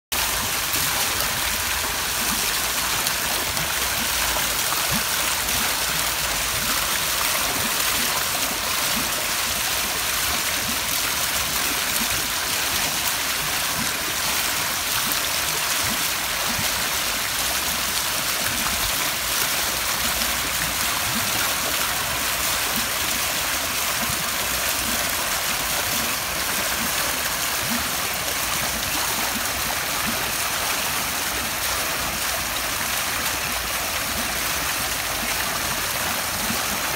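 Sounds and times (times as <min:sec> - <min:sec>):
water rushing over stone cascade: 0:00.1 - 0:36.9.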